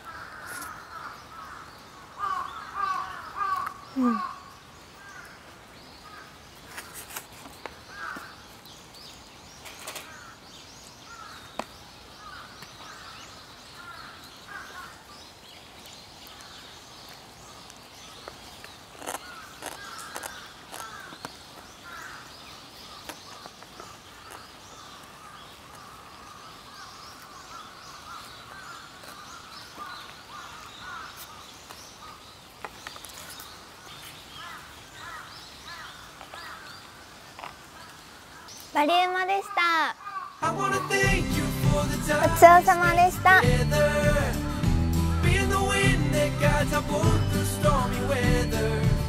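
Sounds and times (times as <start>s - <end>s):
birds calling and chattering: 0.0s - 49.0s.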